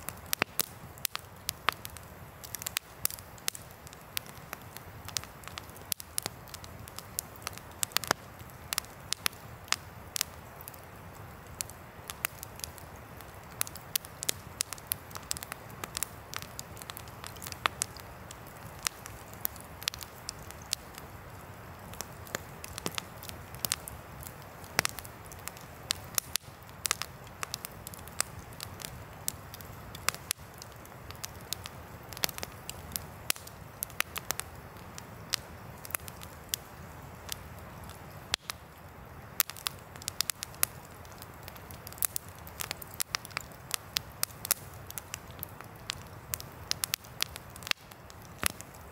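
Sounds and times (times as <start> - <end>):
campfire crackling: 0.0 - 48.9
sharp pops and snaps: 0.0 - 48.9.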